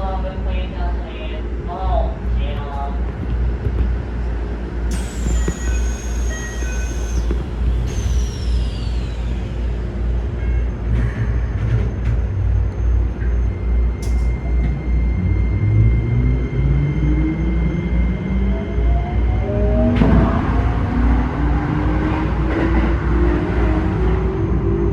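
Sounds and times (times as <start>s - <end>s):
electric train motors rumbling: 0.0s - 24.9s
high motor whine: 0.0s - 24.9s.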